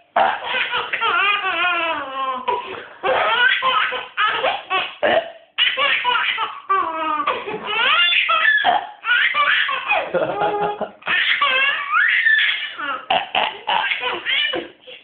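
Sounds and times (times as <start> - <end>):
baby laughing: 0.4 - 5.0, 5.6 - 15.0.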